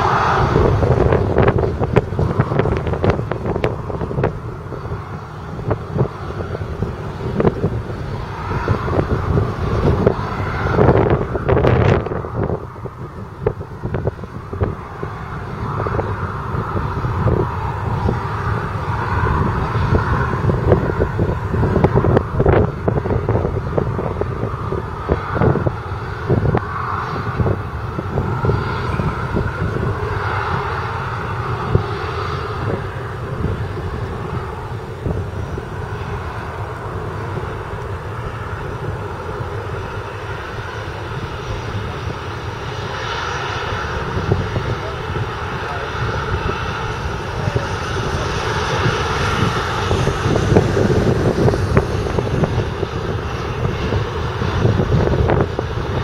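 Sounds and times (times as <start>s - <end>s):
jet engines rumbling and whining: 0.0s - 56.0s
wind buffeting microphone: 0.0s - 56.0s.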